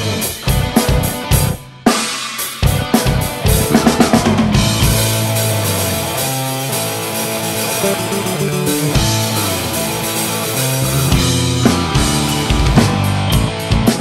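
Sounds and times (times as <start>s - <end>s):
electric guitar and bass chords: 0.0s - 2.0s, 2.6s - 14.0s
drum kit: 0.0s - 14.0s.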